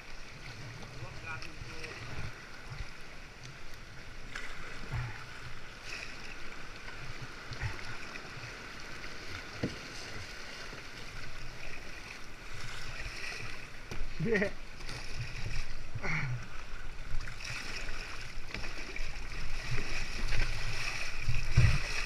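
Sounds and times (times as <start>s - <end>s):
paddle splashes: 0.0s - 22.0s
water sloshing: 0.0s - 22.0s.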